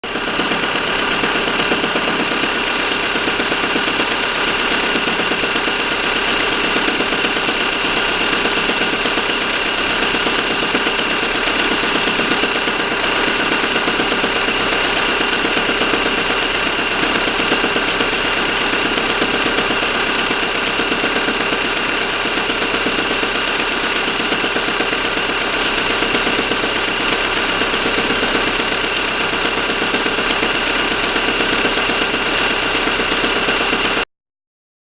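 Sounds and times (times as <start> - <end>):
engine running with rapid knock: 0.0 - 34.1.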